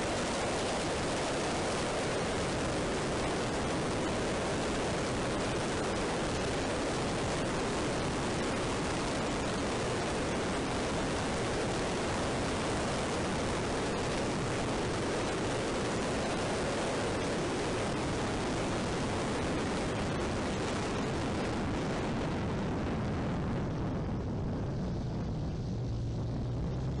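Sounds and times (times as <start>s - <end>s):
wind rushing on microphone: 0.0s - 27.0s.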